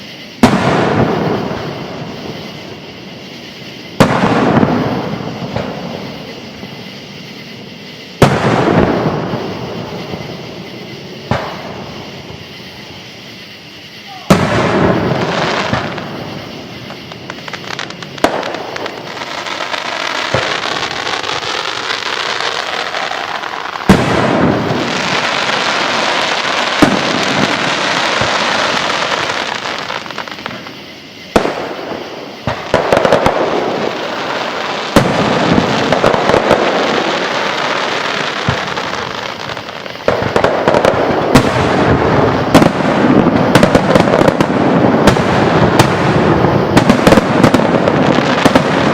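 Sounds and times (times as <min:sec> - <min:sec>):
firework bangs: 0:00.0 - 0:48.9
fireworks crackling and hissing: 0:00.0 - 0:48.9.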